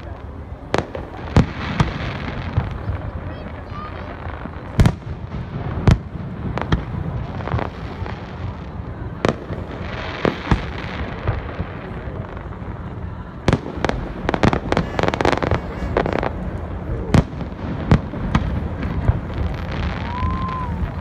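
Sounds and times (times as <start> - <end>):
distant rumbling: 0.7 - 21.0.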